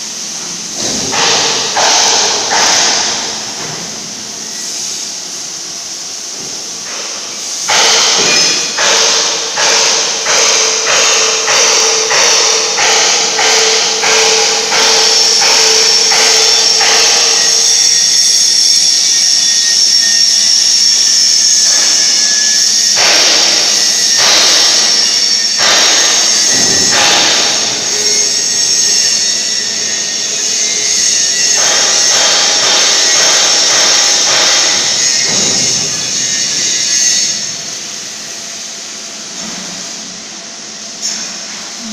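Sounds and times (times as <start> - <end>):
industrial machine whine: 0.0 - 41.9.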